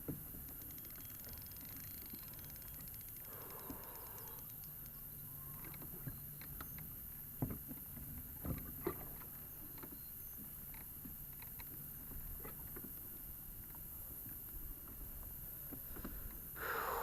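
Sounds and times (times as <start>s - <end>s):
kayak on water: 0.0s - 17.0s.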